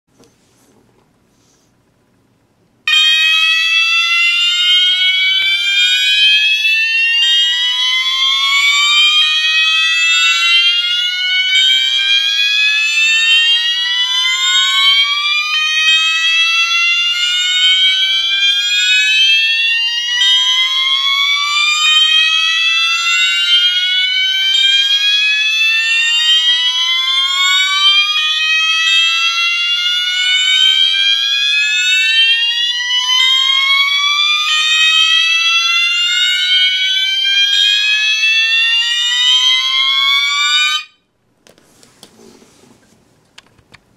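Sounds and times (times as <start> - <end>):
fire alarm horns whooping: 2.9 - 41.1.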